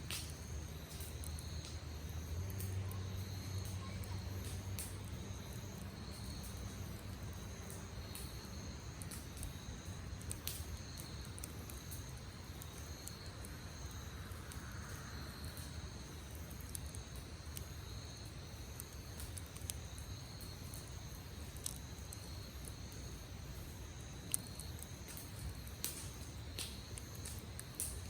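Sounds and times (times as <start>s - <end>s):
campfire crackling and popping: 0.0s - 28.0s
insects chirping: 0.0s - 28.0s.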